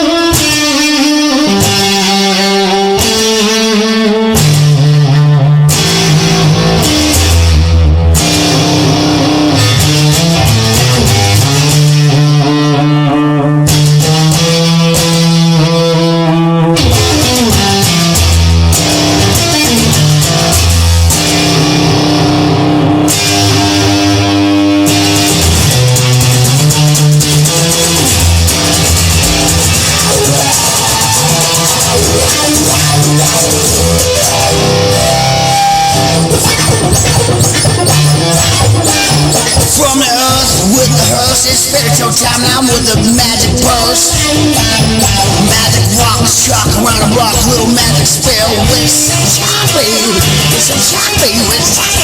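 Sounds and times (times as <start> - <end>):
bass line: 0.0 - 52.0
blues guitar: 0.0 - 52.0.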